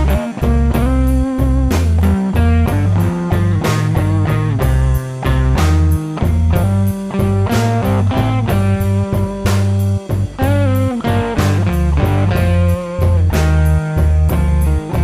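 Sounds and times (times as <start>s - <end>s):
bass and drum beat: 0.0s - 15.0s
blues-rock electric guitar: 0.0s - 15.0s.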